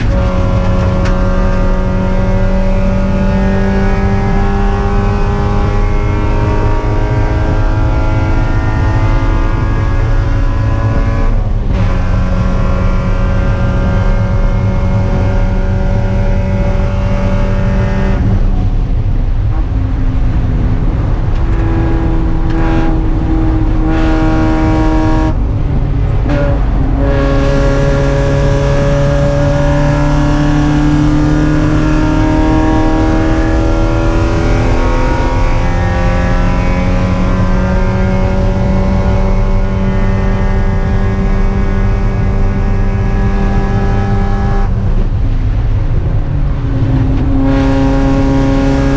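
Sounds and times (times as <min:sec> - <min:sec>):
race car engine running hard: 0:00.0 - 0:48.9.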